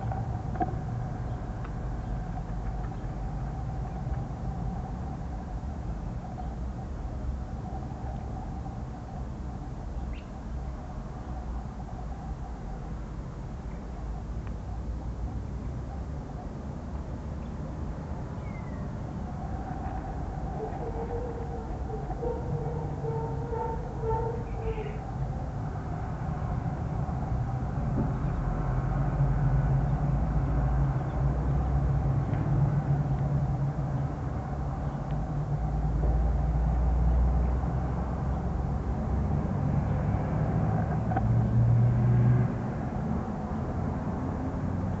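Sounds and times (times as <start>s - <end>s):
low engine-like droning rumble: 0.0s - 45.0s.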